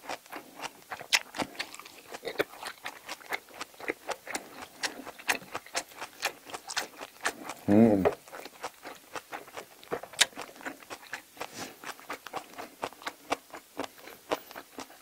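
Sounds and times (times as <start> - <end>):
wet chewing and lip smacking: 0.0 - 15.0.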